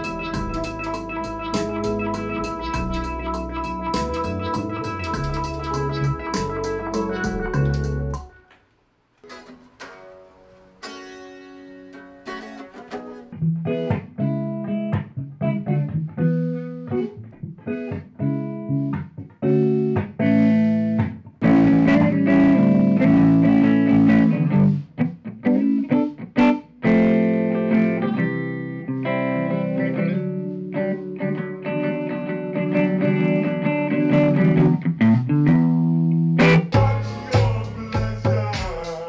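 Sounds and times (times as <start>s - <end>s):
guitar playing: 0.0s - 8.6s, 9.2s - 39.0s.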